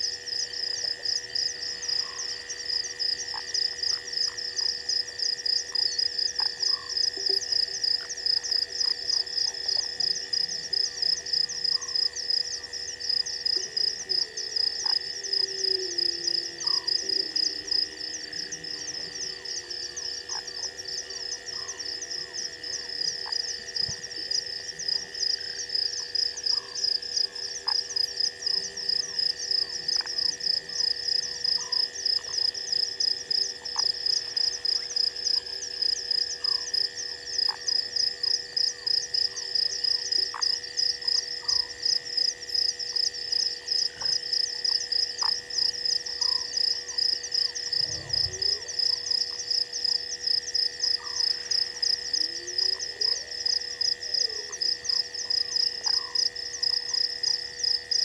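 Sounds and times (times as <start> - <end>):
frog calls: 0.0 - 58.0
insects chirping: 0.0 - 58.0
steady high insect trill: 0.0 - 58.0.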